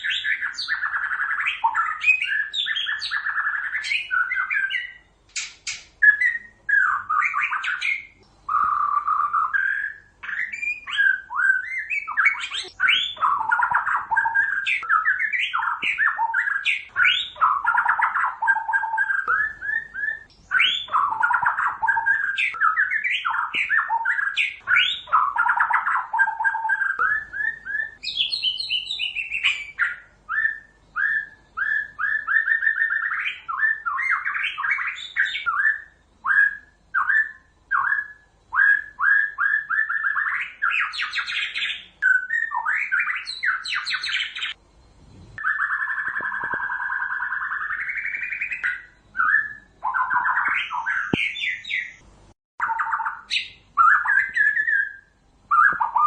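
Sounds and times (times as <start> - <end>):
songbird whistling song: 0.0 - 56.0.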